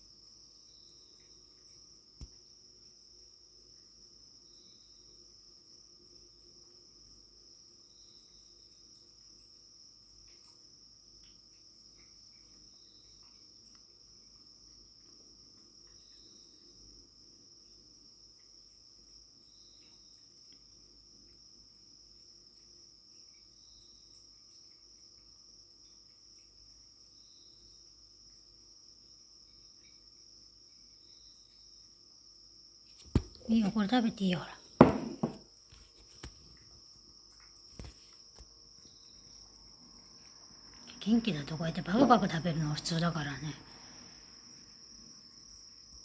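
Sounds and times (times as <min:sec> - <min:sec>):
faint cricket trill: 0:00.0 - 0:46.0
insect chirping: 0:00.0 - 0:46.0.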